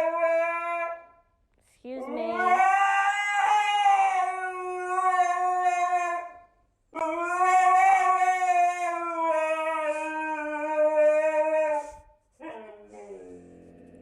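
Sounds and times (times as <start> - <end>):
dog howling: 0.0 - 1.1, 2.0 - 6.4, 7.0 - 14.0.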